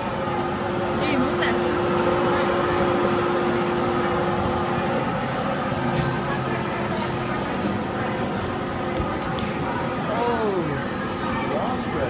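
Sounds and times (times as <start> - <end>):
hum: 0.0 - 11.5
blower rushing air: 0.0 - 12.0
busy room hubbub: 0.0 - 12.0.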